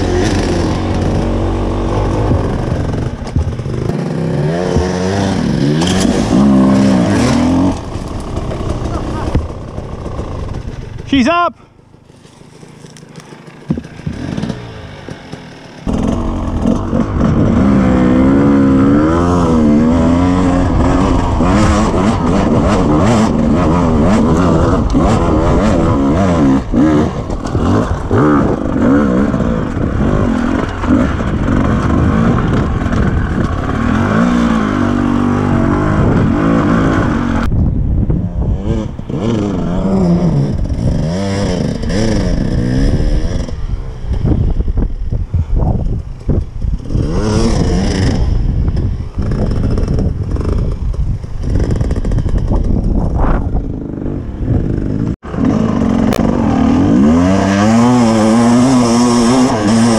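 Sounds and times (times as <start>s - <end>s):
dirt bike engine revving: 0.0s - 11.4s, 12.4s - 37.5s, 38.2s - 45.2s, 45.8s - 59.9s.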